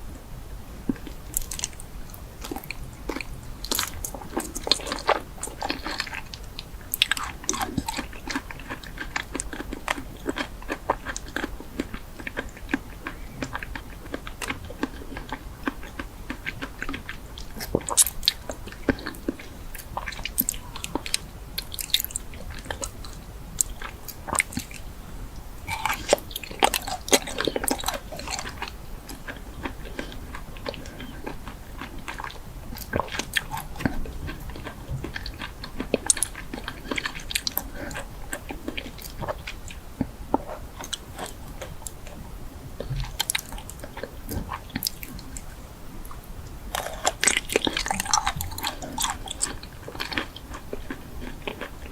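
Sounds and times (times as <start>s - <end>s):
person chewing crunchy food: 0.8s - 25.0s, 25.6s - 51.9s.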